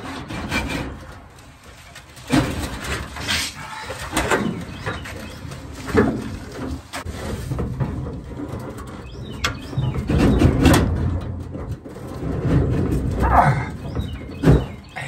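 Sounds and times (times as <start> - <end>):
sheet-metal knocks and scrapes: 0.0 - 15.0.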